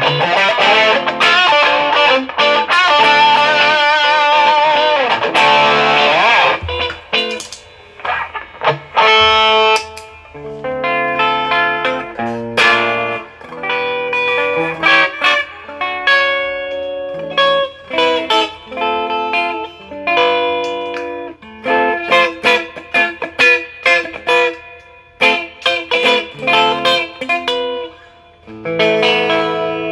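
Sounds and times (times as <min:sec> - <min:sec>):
electric guitar notes and chords: 0:00.0 - 0:29.9.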